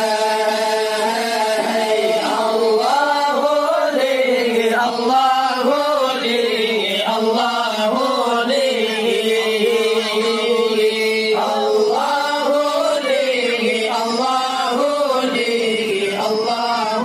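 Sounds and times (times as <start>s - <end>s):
group of men chanting: 0.0s - 17.0s.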